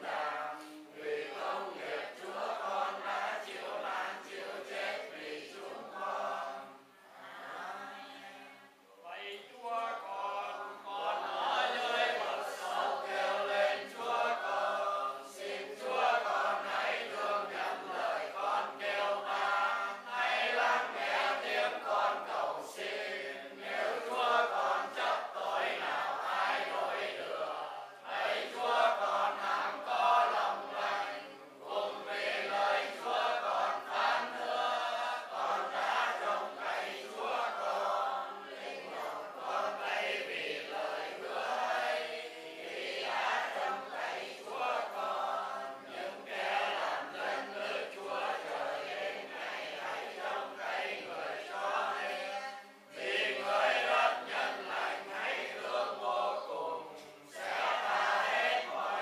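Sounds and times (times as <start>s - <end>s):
group chanting prayers: 0.0s - 59.0s.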